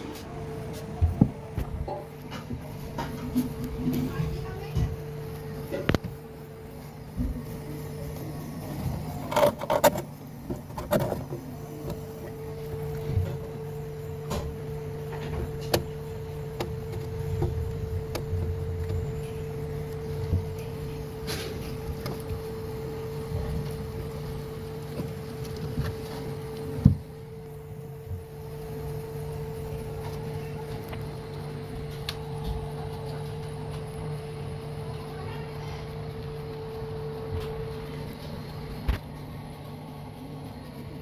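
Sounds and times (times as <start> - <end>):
refrigerator compressor humming: 0.0 - 41.0.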